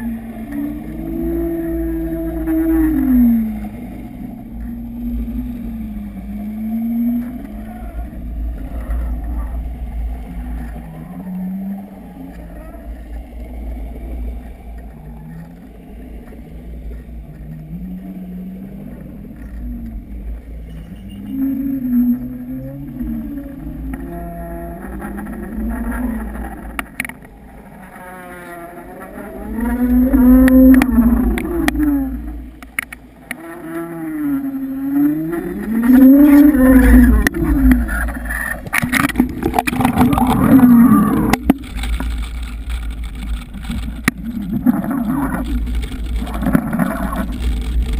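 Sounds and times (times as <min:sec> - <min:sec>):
boat motor underwater: 0:00.0 - 0:47.9.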